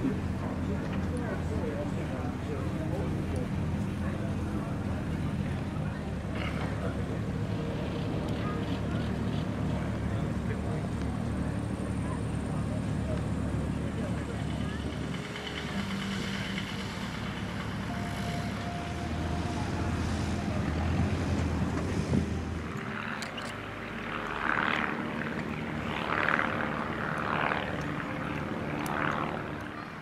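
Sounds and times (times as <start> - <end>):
light aircraft engine running: 0.0 - 30.0.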